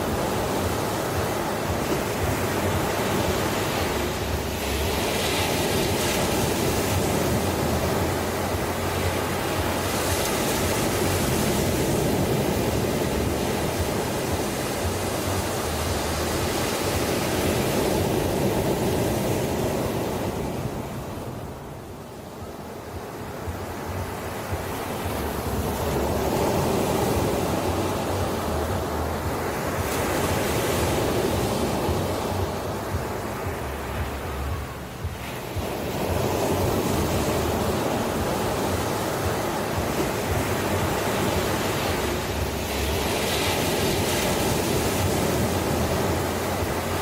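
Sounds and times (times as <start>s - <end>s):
ocean waves washing ashore: 0.0s - 47.0s.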